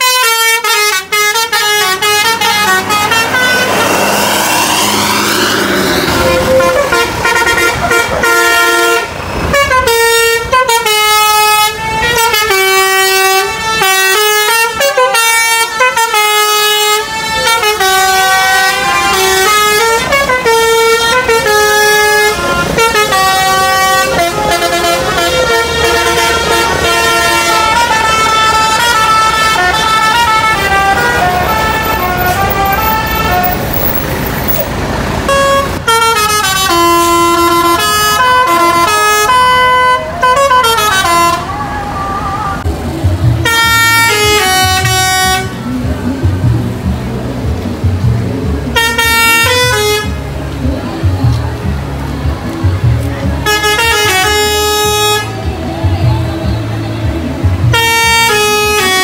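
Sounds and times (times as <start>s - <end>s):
musical air horns playing a tune: 0.0s - 34.6s, 35.3s - 42.6s, 43.2s - 45.9s, 48.7s - 50.3s, 53.4s - 55.5s, 57.3s - 59.0s.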